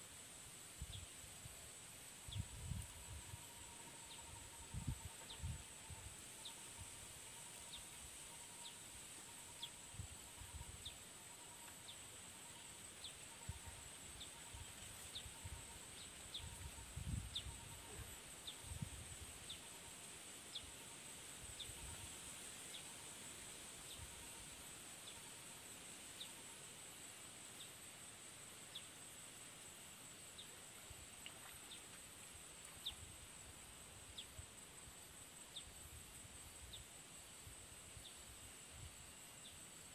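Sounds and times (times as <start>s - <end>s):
high insect drone: 0.1s - 39.9s.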